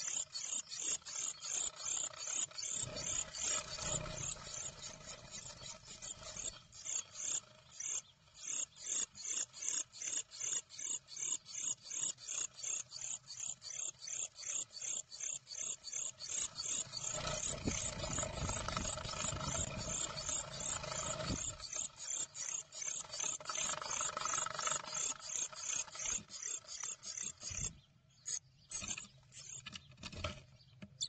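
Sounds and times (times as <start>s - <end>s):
birds scuffling and calling: 0.0s - 31.0s.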